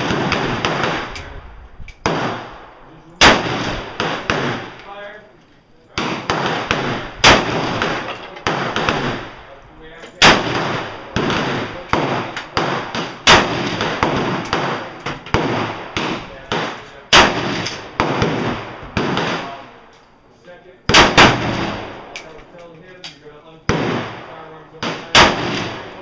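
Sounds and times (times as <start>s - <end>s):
loud echoing rifle shots: 0.0s - 4.8s, 5.9s - 19.9s, 20.8s - 22.6s, 23.4s - 26.0s
quieter bangs: 0.0s - 5.2s, 5.8s - 26.0s.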